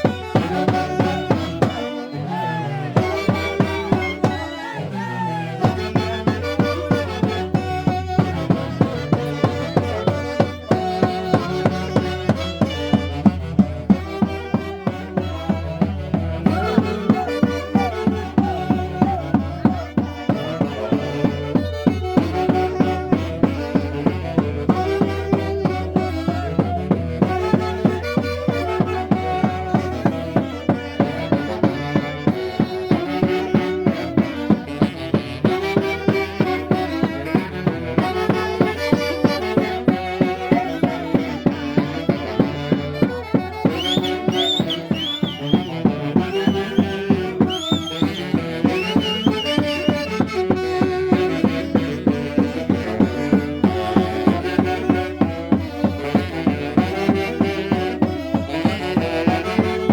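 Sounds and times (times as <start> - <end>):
band playing dance music: 0.0 - 59.9
quick drumbeat: 5.6 - 59.9.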